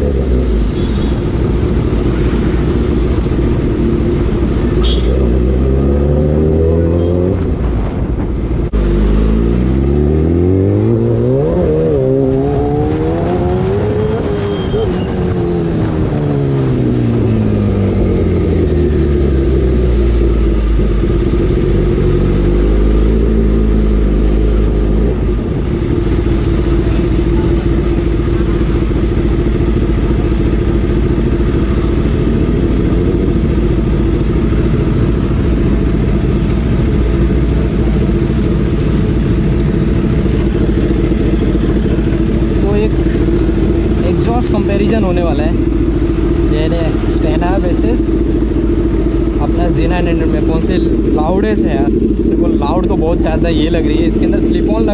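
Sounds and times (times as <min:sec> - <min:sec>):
motorcycle engine revving and idling: 0:00.0 - 0:07.9, 0:08.6 - 0:54.9.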